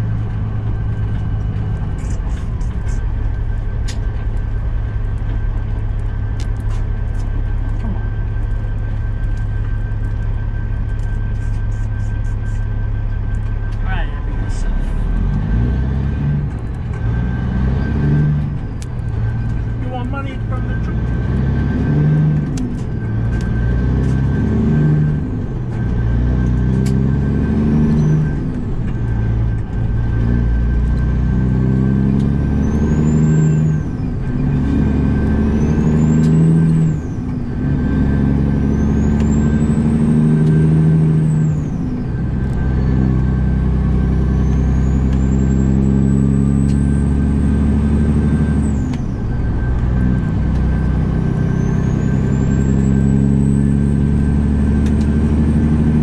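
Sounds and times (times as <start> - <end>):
truck diesel engine accelerating: 0.0 - 56.0.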